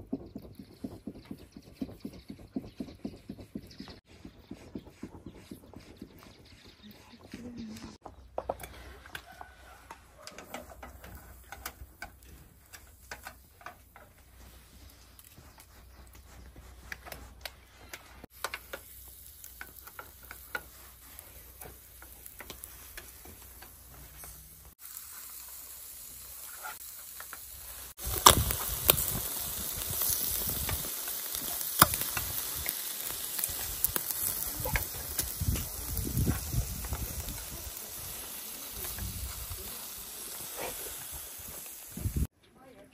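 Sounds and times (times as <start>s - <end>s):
kebabs sizzling on charcoal grill: 7.9s - 42.3s
crackles from grill: 8.0s - 42.3s.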